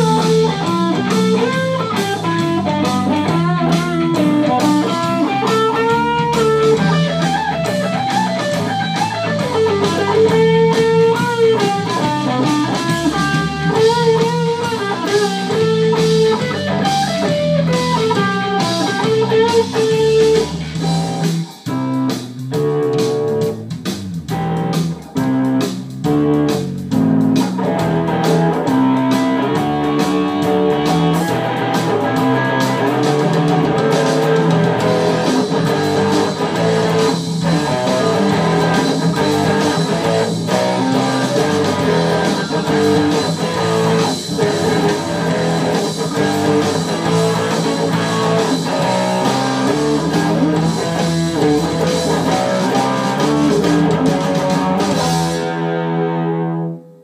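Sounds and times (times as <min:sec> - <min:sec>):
electric guitar rock lines: 0:00.0 - 0:57.0.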